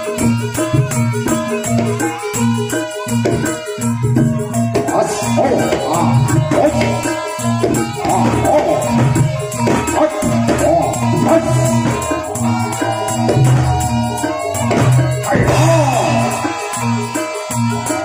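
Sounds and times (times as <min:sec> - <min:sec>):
struck percussion ensemble: 0:00.0 - 0:18.0
wavering melody line: 0:00.0 - 0:18.0.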